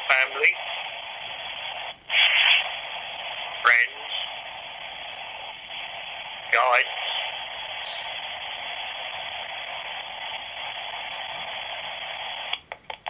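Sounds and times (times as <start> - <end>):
white noise static hissing: 0.0 - 13.0.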